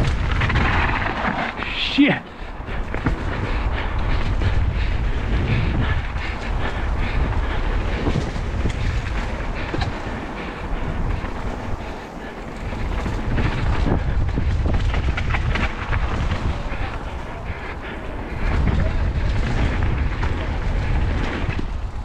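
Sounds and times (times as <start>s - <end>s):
bike rattling and clicking: 0.0s - 22.0s
bike tyre noise: 0.0s - 22.0s
wind rumbling on microphone: 0.0s - 22.0s.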